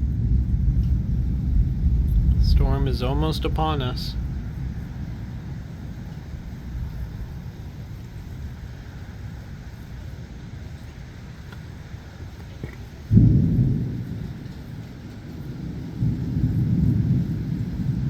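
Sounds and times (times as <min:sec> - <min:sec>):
low thunder rumble: 0:00.0 - 0:18.0.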